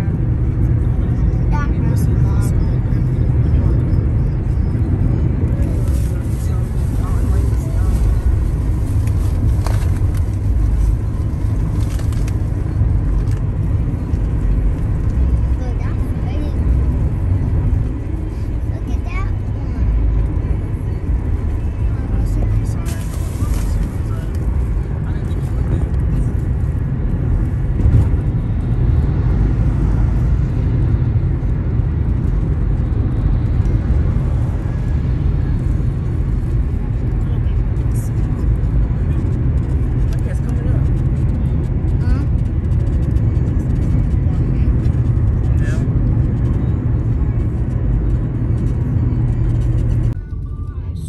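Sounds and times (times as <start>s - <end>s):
road vehicle rumbling: 0.0s - 51.0s.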